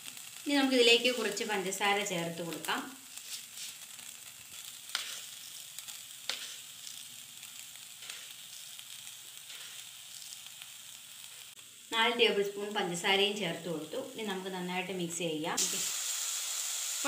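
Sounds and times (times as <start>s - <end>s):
coconut sizzling in a pan: 0.0s - 17.0s.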